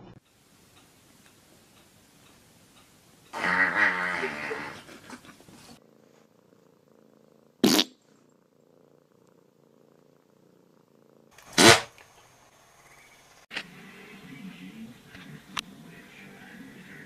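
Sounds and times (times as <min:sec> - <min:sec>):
cat purring: 0:00.0 - 0:12.5, 0:13.7 - 0:17.0.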